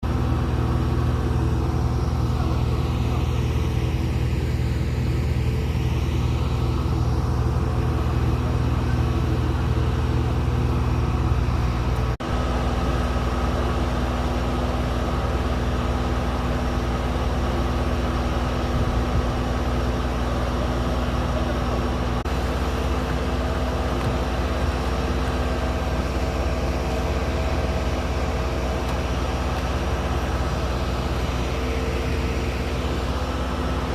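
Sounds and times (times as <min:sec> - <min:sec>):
large engine humming: 0:00.0 - 0:33.9.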